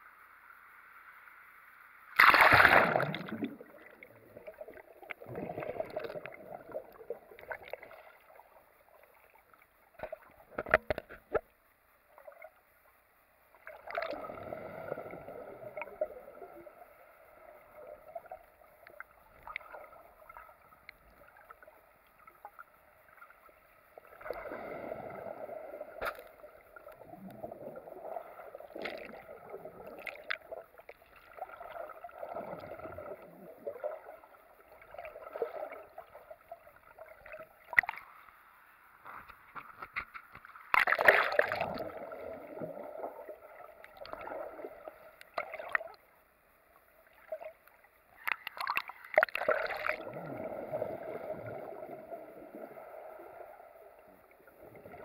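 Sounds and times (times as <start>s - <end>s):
muffled underwater surf churning: 2.2s - 11.4s, 13.5s - 37.8s, 40.7s - 46.0s, 48.1s - 55.0s.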